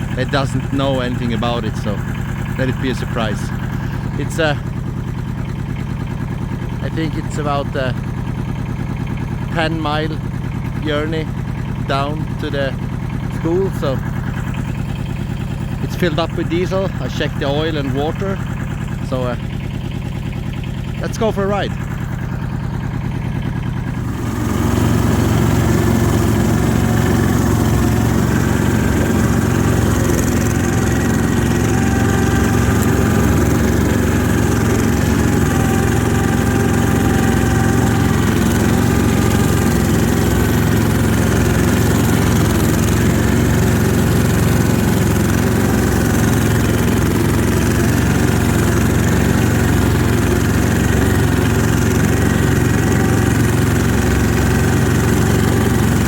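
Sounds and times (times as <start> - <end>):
snowmobile diesel engine running: 0.0 - 56.0.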